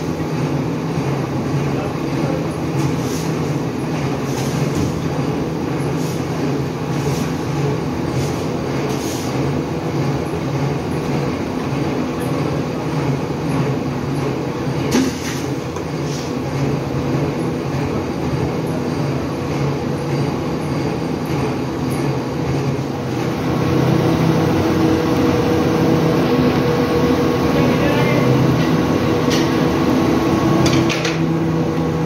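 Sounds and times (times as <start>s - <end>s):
extrusion machinery hum: 0.0s - 32.0s.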